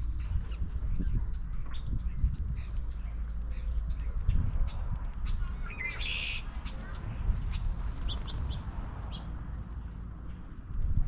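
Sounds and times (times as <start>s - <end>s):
songbirds calling: 0.0s - 9.4s.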